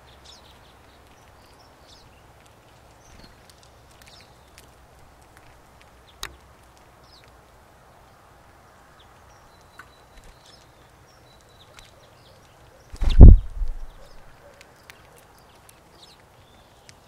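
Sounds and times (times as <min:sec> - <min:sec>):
birds cracking seeds: 0:00.2 - 0:17.0.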